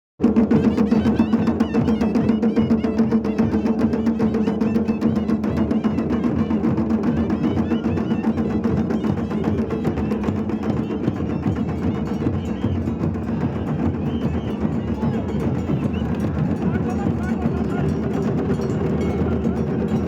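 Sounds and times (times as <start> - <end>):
rapid dense drumming: 0.2 - 20.0.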